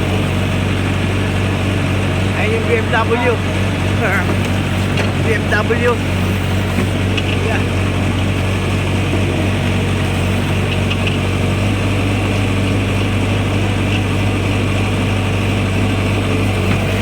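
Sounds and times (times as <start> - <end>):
backhoe diesel engine humming: 0.0 - 17.0.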